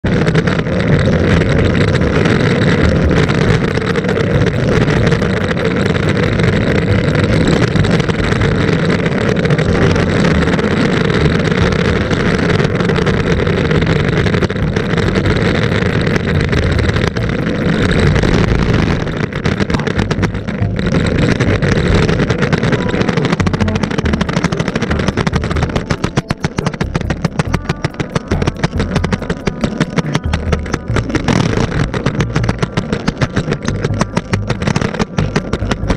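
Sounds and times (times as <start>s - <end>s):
longboard wheels rumbling: 0.0s - 35.9s.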